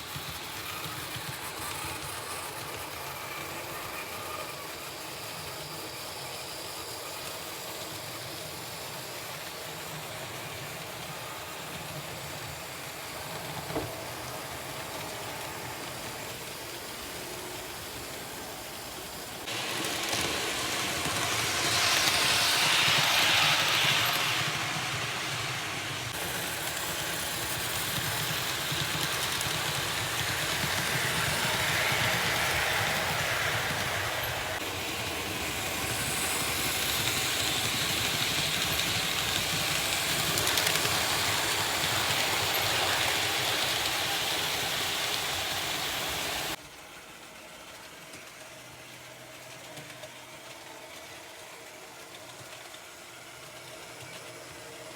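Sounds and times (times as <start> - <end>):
model train rolling rattle: 0.0 - 54.9.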